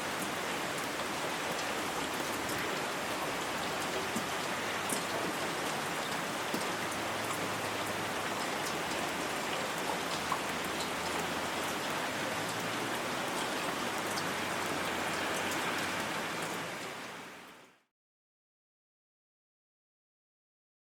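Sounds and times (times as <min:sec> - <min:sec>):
light rain pattering: 0:00.0 - 0:17.9.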